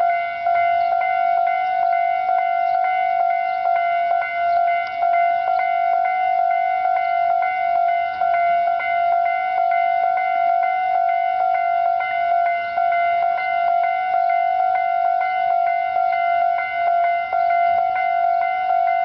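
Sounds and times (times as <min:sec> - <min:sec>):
level crossing alarm clanging: 0:00.0 - 0:19.0
steady electronic tone: 0:00.0 - 0:19.0.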